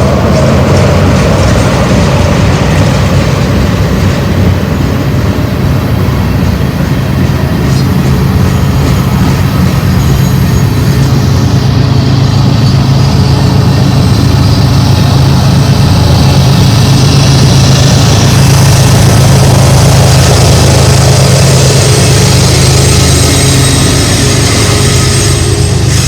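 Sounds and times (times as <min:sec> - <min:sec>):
diesel locomotive drone: 0:00.0 - 0:26.0.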